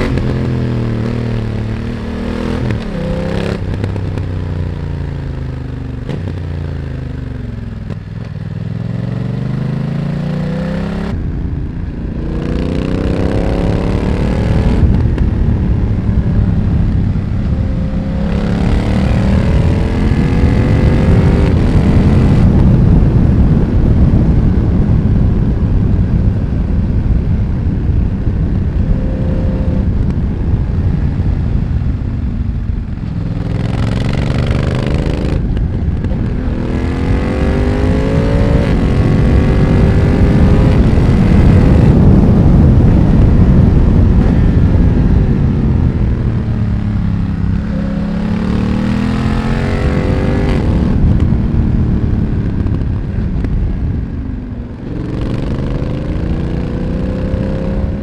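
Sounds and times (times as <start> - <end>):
motorcycle engine revving: 0.0 - 58.0
wind noise rushing: 0.0 - 58.0.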